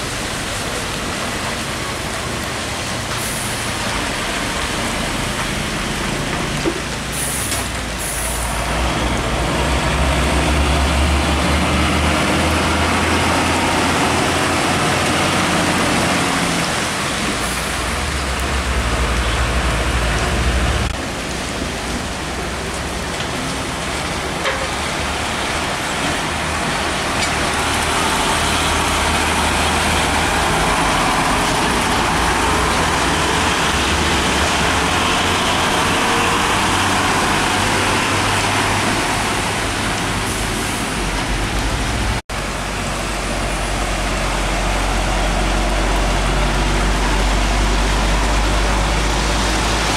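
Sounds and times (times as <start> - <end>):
rain and tyres on wet road: 0.0 - 49.9
truck engine droning: 0.0 - 49.9.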